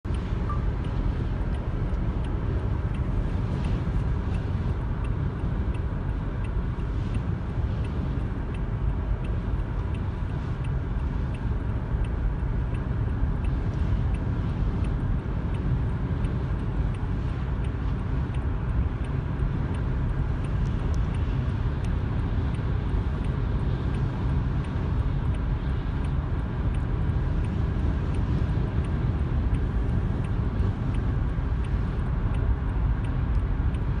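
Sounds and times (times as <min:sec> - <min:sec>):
tyres and engine rumble: 0:00.0 - 0:34.0
faint regular ticking: 0:00.1 - 0:34.0.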